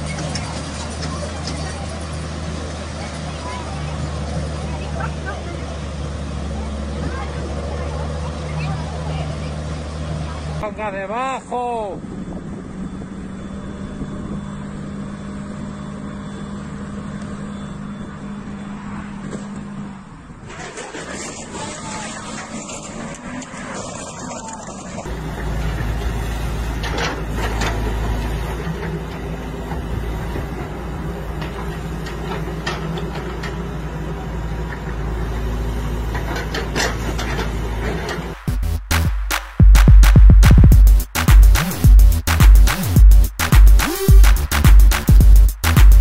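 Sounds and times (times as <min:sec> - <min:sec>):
crane diesel engine running: 0:00.0 - 0:46.0.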